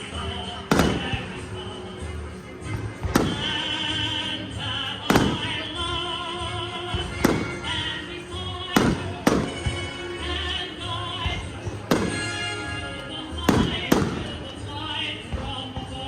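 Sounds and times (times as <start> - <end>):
music with singing: 0.0 - 16.0
fireworks booming: 0.6 - 1.8, 2.6 - 16.0.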